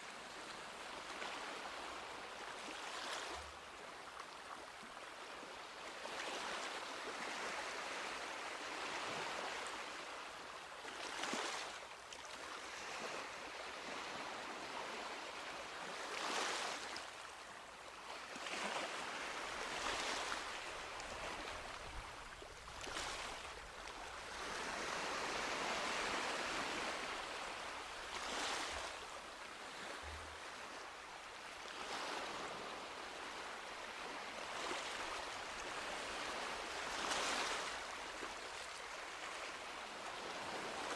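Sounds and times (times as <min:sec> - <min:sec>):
small waves washing onto beach: 0:04.2 - 0:40.9.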